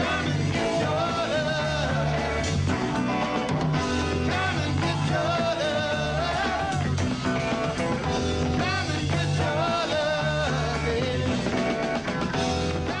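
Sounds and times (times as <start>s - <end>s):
music with singing: 0.0s - 13.0s
steady bass line: 0.0s - 13.0s.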